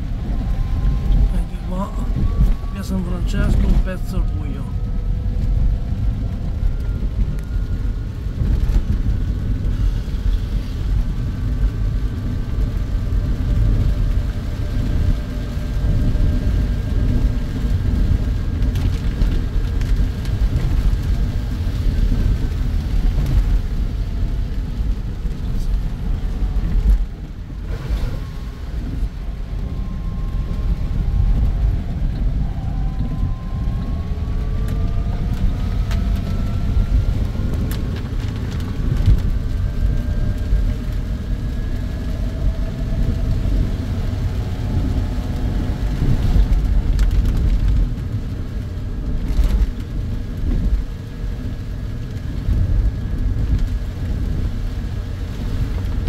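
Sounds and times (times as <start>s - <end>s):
tyres rumbling on wet road: 0.0s - 56.0s.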